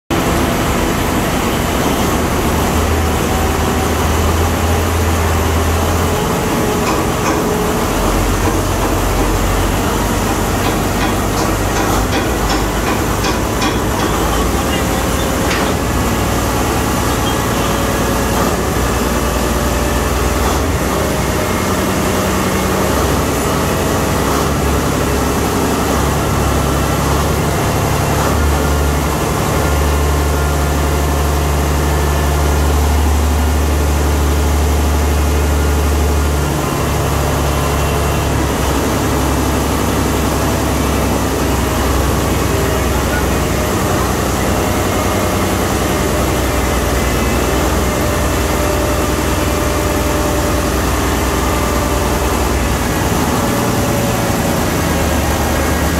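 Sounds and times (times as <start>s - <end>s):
ship engine drone: 0.1s - 55.9s.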